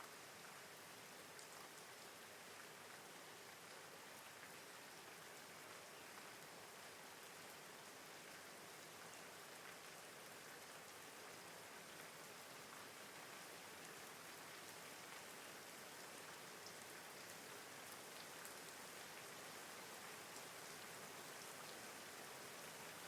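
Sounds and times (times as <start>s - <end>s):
faint steady rain: 0.0s - 23.0s.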